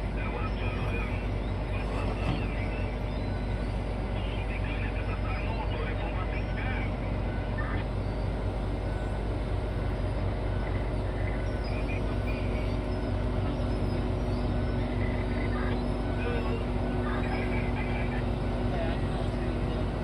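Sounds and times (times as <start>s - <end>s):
heavy diesel machinery rumbling: 0.0s - 20.0s
steady droning tone: 0.0s - 20.0s.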